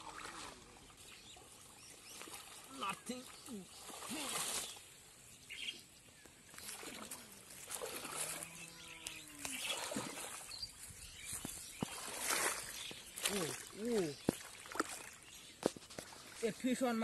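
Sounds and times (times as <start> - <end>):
water sloshing and splashing: 0.0 - 5.1, 6.4 - 17.0.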